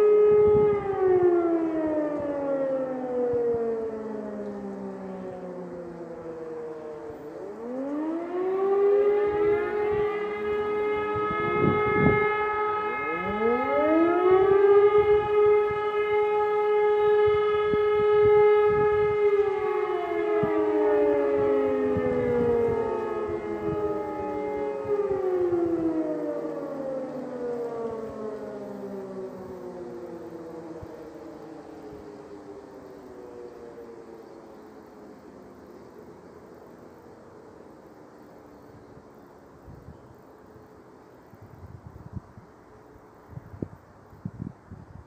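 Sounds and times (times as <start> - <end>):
civil defence sirens wailing: 0.0 - 45.0.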